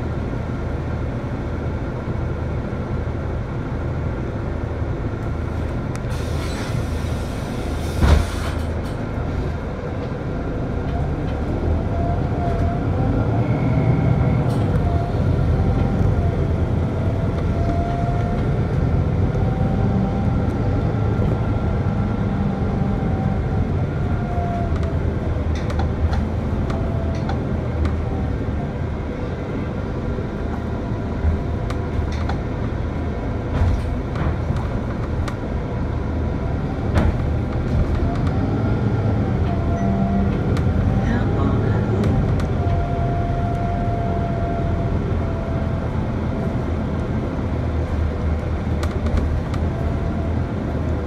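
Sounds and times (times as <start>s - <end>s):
bus engine rumbling: 0.0s - 51.0s.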